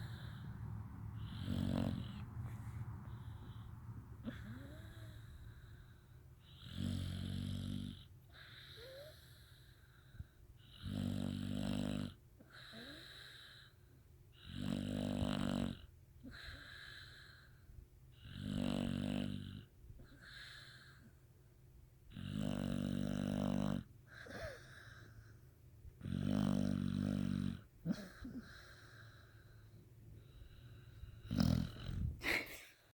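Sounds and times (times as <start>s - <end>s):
dog snoring: 0.0s - 21.2s, 22.1s - 32.2s.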